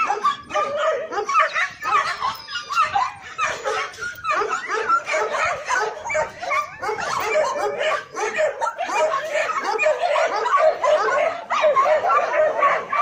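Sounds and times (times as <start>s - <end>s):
dog whining: 0.0s - 12.0s
dogs barking and yipping: 0.0s - 13.0s.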